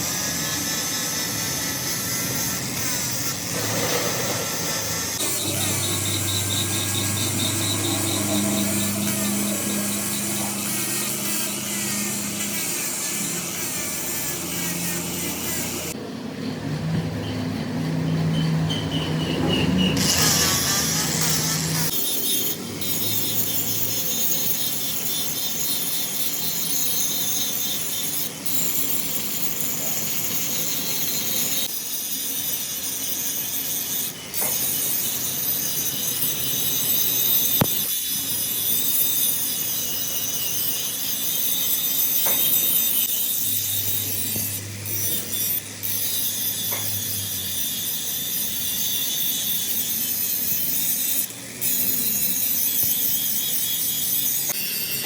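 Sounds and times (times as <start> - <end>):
metal cutting machine scraping hiss: 0.0 - 16.0, 18.1 - 55.0.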